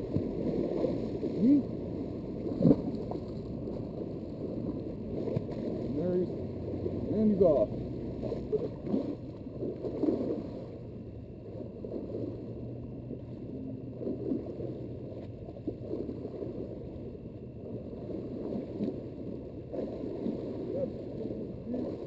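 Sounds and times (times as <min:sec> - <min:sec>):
water lapping and gurgling: 0:00.0 - 0:22.0.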